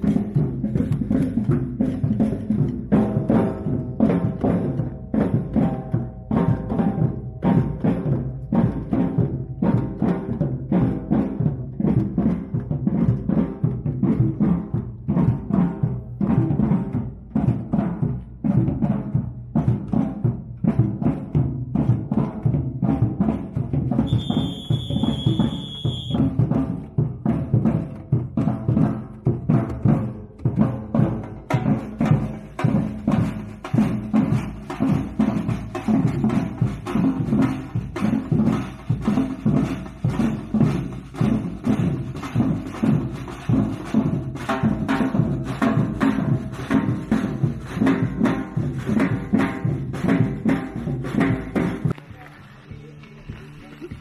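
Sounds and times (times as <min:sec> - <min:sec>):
deep drum beats: 0:00.0 - 0:54.0
samba percussion group: 0:00.0 - 0:54.0.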